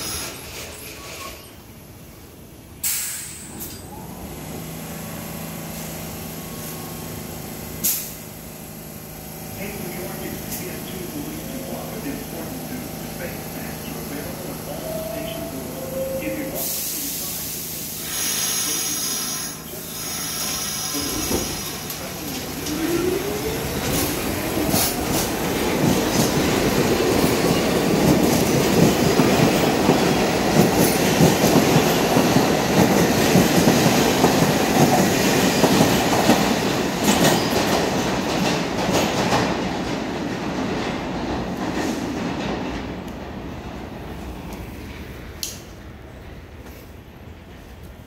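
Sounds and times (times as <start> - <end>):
subway train motors whining: 0.0 - 48.0
train wheels rumbling on rail: 0.0 - 48.0.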